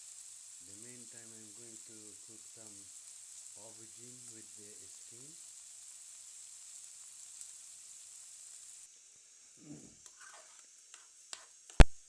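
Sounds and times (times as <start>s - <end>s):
oil crackling and popping: 0.0s - 8.9s, 10.0s - 12.0s
food sizzling in hot oil: 0.0s - 12.0s.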